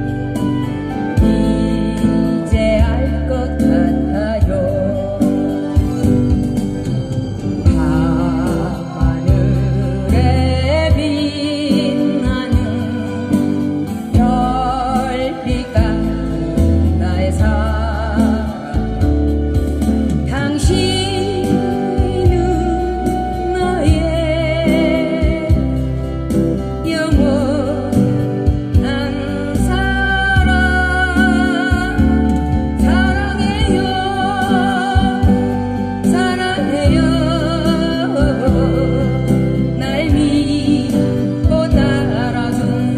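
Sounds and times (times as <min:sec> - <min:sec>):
low bass line: 0:00.0 - 0:42.9
woman singing with vibrato: 0:00.0 - 0:42.9.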